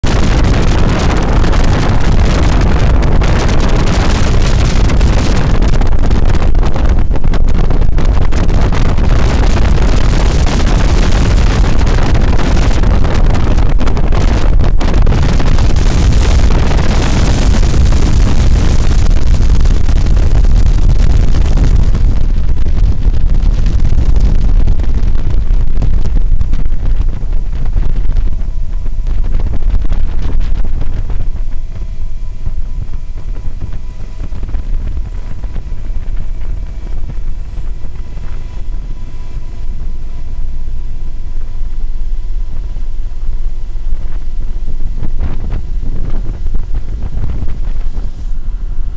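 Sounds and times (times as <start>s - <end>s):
helicopter rotors and engines: 0.0s - 48.9s
wind buffeting microphone: 0.0s - 48.9s.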